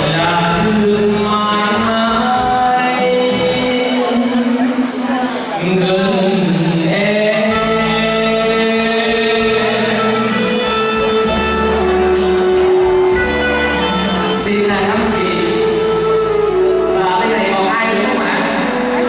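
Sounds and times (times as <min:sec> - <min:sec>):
man singing into microphone: 0:00.0 - 0:12.4, 0:13.7 - 0:19.0
instrumental accompaniment: 0:00.0 - 0:19.0.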